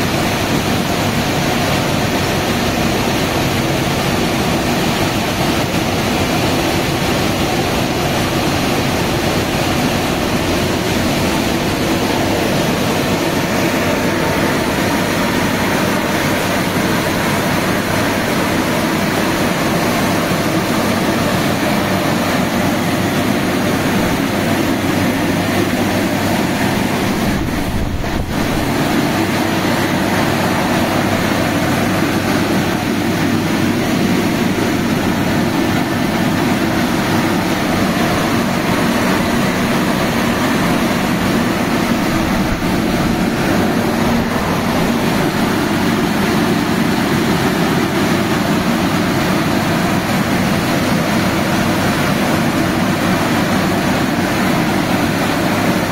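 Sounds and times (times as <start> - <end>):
car wash rushing noise: 0.0 - 55.9.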